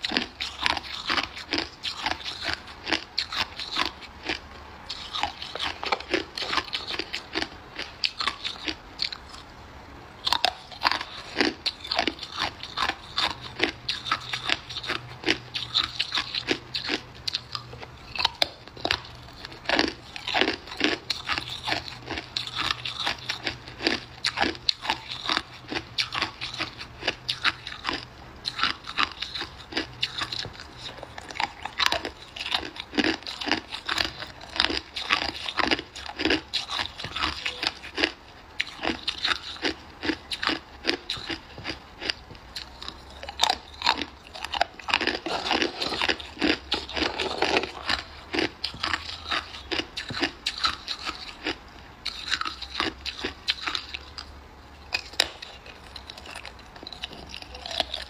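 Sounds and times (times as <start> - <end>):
ice crunching being chewed: 0.0 - 9.5, 10.2 - 58.0.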